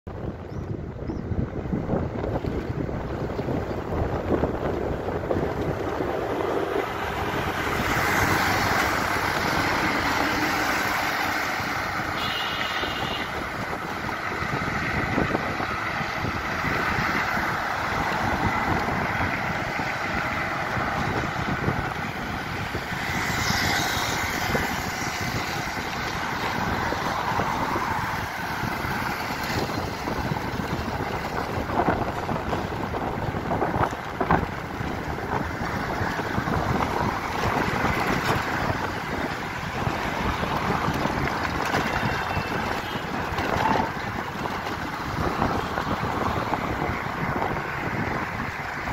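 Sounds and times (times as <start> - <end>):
road and traffic noise: 0.0 - 48.9
wind buffeting microphone: 0.1 - 48.9.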